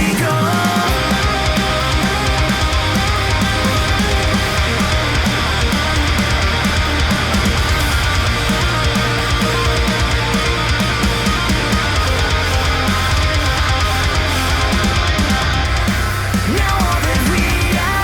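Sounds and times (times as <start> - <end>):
heavy rock music: 0.0 - 18.0.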